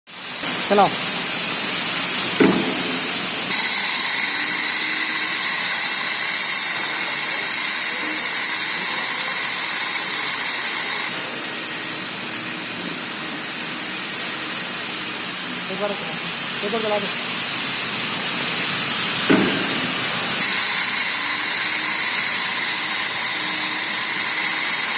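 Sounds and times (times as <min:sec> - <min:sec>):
pneumatic machine air hissing: 0:00.1 - 0:24.9.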